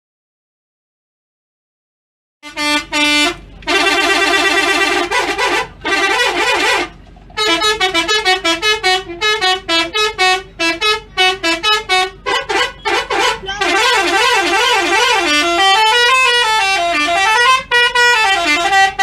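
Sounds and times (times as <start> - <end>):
bus horn playing a tune: 2.4 - 19.0.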